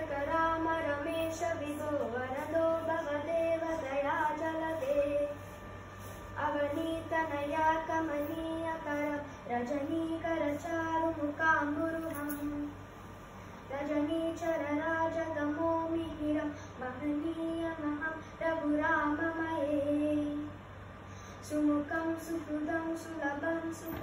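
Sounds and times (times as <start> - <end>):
child singing a hymn: 0.0 - 5.4, 6.4 - 12.8, 13.7 - 20.6, 21.5 - 24.0.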